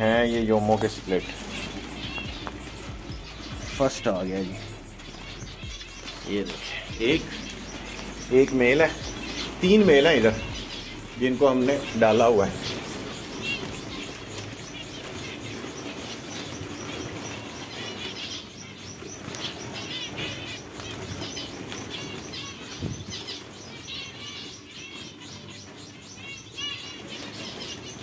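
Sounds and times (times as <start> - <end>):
birds fluttering: 0.0 - 28.0.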